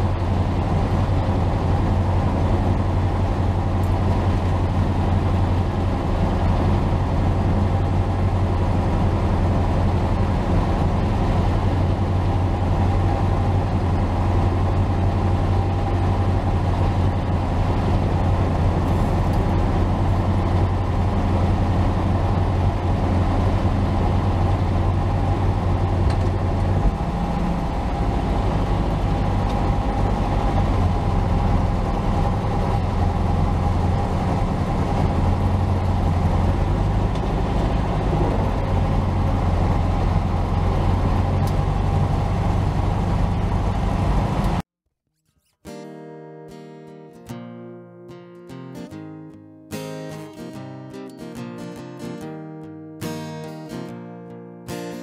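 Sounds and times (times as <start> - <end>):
car engine droning: 0.0 - 44.6.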